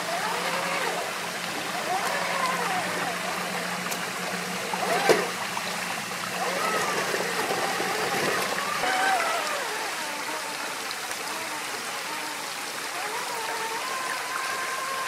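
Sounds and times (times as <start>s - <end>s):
toy car motor whining: 0.0s - 5.4s, 6.2s - 15.0s
stream water running over rocks: 0.0s - 15.0s.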